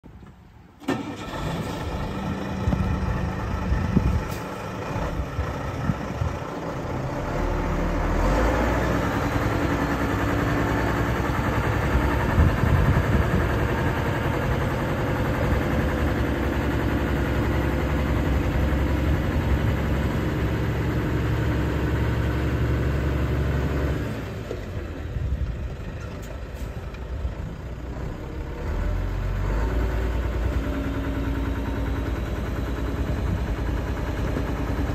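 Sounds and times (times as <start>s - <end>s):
diesel truck engine running: 0.8s - 34.9s.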